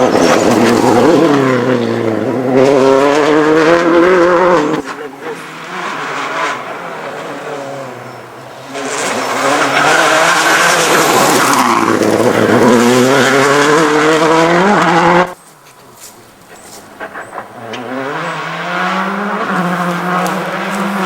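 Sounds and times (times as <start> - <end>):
rally car engine revving: 0.0 - 15.4, 16.5 - 21.0.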